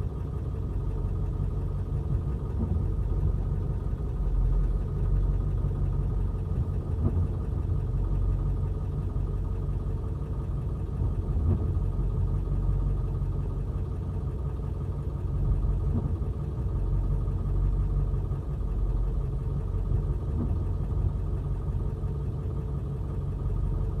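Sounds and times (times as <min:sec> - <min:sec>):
backhoe engine running: 0:00.0 - 0:24.0.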